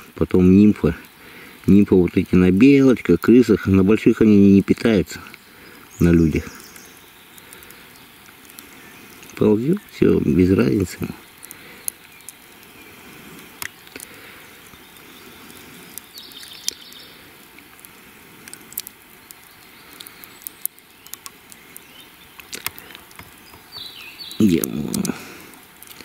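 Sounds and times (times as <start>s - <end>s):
small clicks and crackles: 0.0s - 26.0s.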